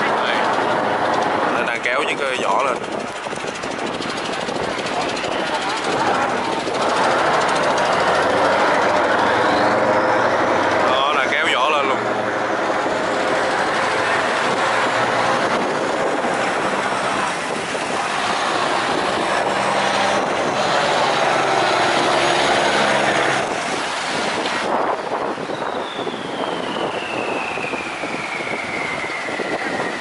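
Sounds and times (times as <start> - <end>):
boat diesel engines running: 0.0 - 30.0
high whine falling in pitch: 4.4 - 30.0.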